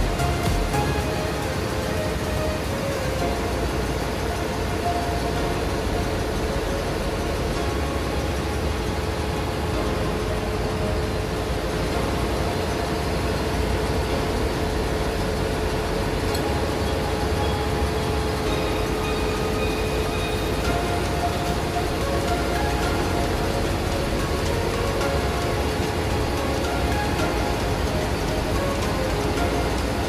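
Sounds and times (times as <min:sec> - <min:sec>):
diesel machinery drone: 0:00.0 - 0:30.0.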